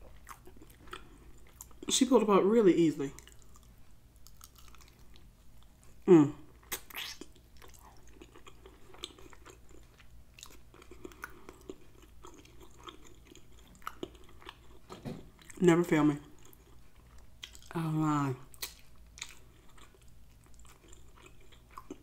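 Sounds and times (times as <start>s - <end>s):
person chewing meat: 0.0s - 1.9s, 3.2s - 15.6s, 16.3s - 17.8s, 18.5s - 22.0s.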